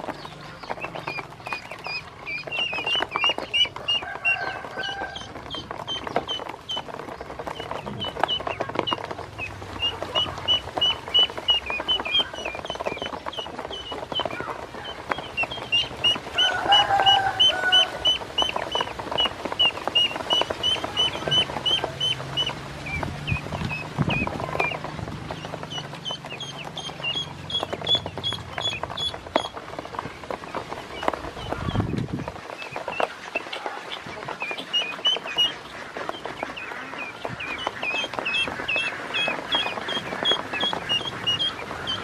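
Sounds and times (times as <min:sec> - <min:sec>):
bills pecking in plastic basin: 0:00.0 - 0:42.0
ducklings peeping: 0:00.0 - 0:42.0.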